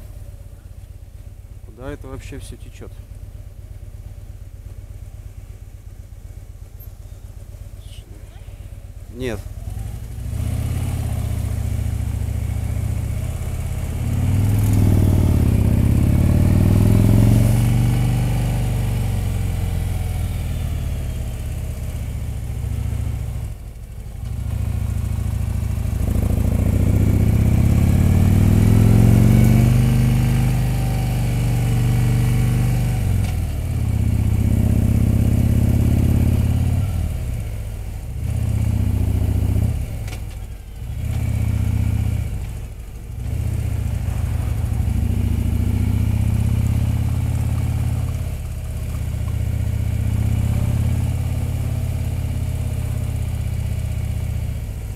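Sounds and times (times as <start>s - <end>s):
motorcycle engine accelerating: 3.0s - 54.9s.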